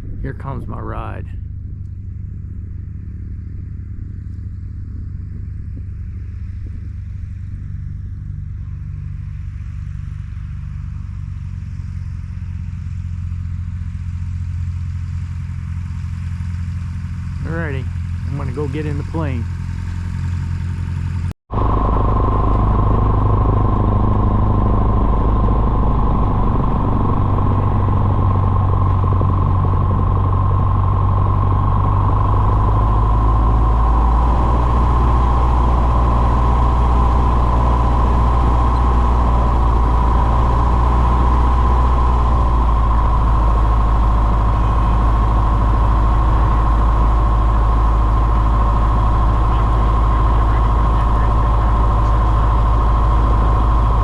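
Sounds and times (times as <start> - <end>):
propeller airplane engine drone: 0.0 - 54.0.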